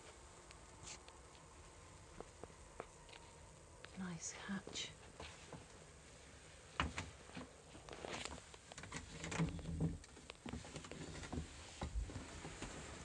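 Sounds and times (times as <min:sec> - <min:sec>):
person moving about: 0:00.0 - 0:13.0.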